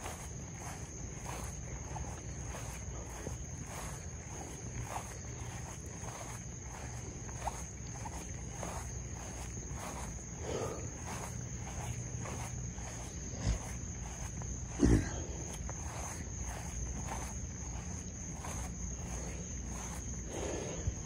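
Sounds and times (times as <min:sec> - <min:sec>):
footsteps walking: 0:00.0 - 0:21.0
night insects chorus: 0:00.0 - 0:21.0.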